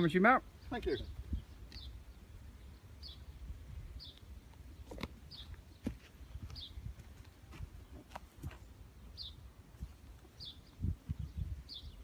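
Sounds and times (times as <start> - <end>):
bird chirping: 0.0 - 12.0
low wind rumble: 0.4 - 12.0.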